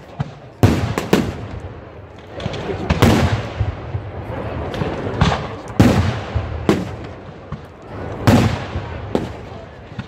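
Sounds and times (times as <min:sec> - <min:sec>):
firework bangs: 0:00.0 - 0:10.0.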